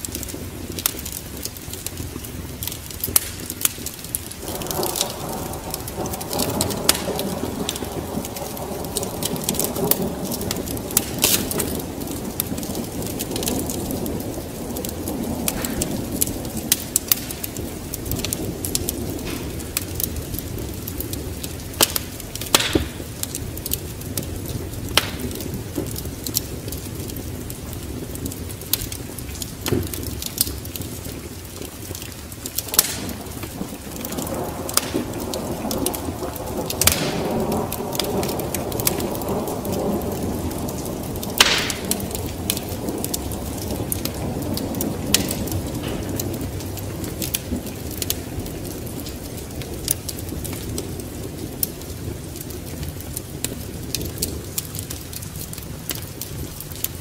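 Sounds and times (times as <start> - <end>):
steady rain: 0.0 - 57.0
wood fire crackling and popping: 0.0 - 57.0
thunder rolling: 4.2 - 56.7.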